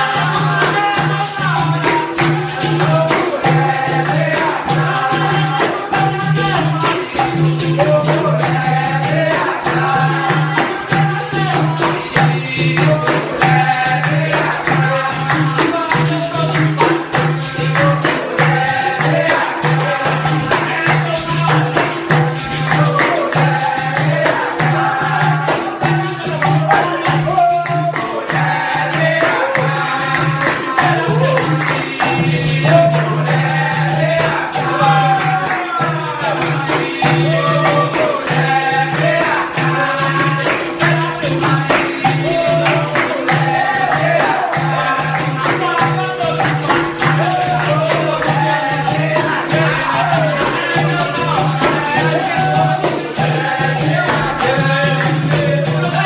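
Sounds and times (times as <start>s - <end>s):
berimbaus playing rhythm: 0.0s - 56.0s
jingling tambourine beats: 0.0s - 56.0s
people singing: 0.0s - 56.0s.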